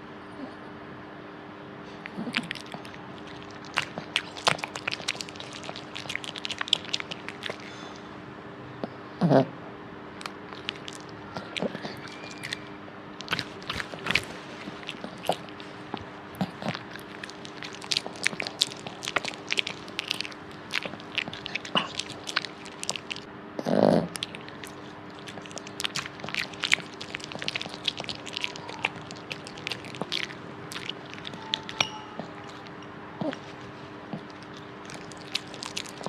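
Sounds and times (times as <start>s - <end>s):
faint hum: 0.0s - 36.0s
dog chewing and crunching: 2.0s - 8.1s, 10.2s - 36.0s.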